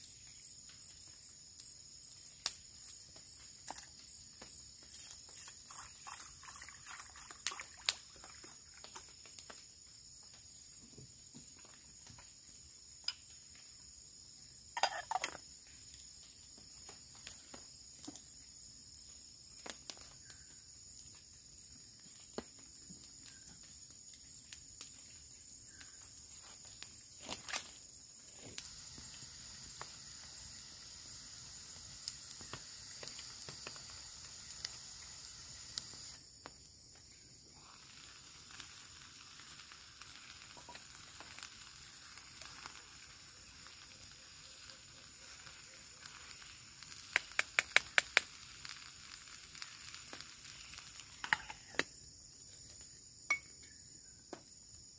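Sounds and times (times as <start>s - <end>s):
campfire crackling and popping: 0.0s - 54.9s
insects droning: 0.0s - 54.9s
steady hiss: 0.0s - 54.9s.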